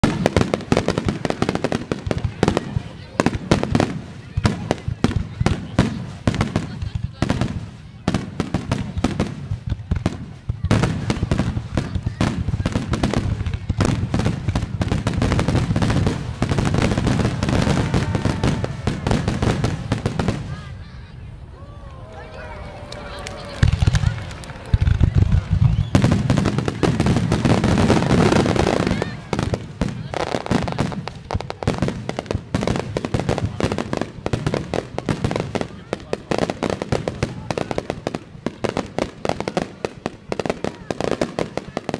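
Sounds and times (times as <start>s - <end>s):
fireworks bursting: 0.0s - 21.2s, 23.0s - 41.9s.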